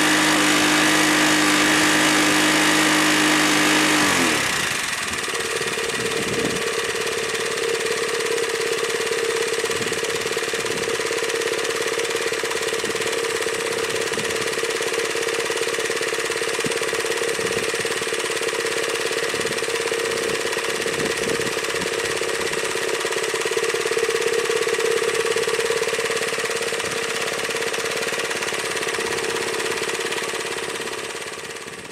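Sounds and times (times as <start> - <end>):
mower engine running: 0.0 - 31.9.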